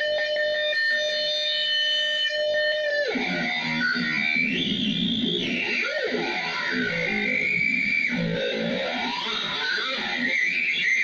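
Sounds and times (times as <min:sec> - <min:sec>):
distorted guitar drone: 0:00.0 - 0:11.0.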